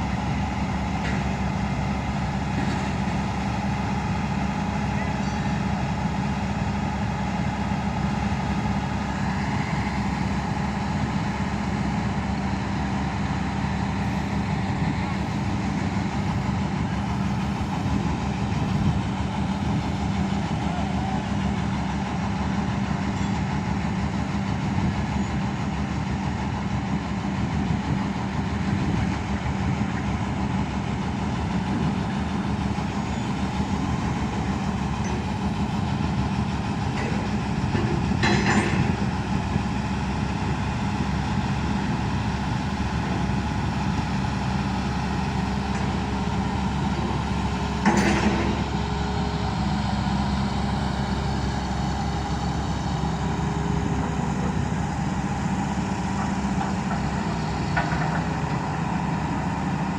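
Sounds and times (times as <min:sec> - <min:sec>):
construction machinery engine running: 0:00.0 - 0:59.9.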